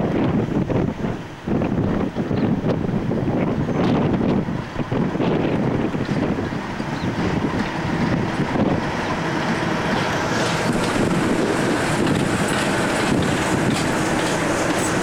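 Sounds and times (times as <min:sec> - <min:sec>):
diesel locomotive engine running: 0:00.0 - 0:15.0
train wheels on rails: 0:00.0 - 0:15.0.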